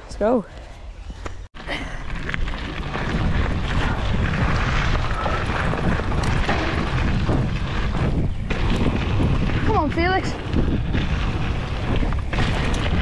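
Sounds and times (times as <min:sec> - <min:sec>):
wind over microphone: 0:00.8 - 0:13.0
bike rattling: 0:01.3 - 0:13.0
bike tyres rumbling on dirt: 0:01.6 - 0:13.0.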